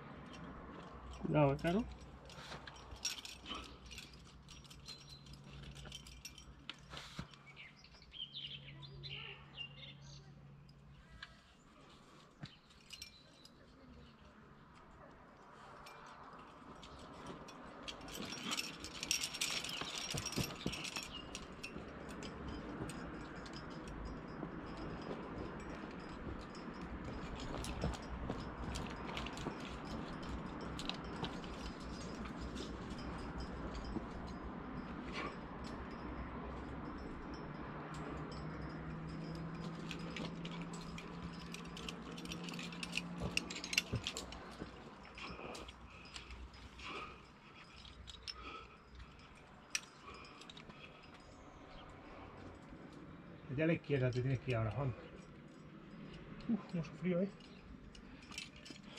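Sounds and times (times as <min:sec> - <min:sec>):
climbing gear clinking: 0:00.0 - 0:58.9.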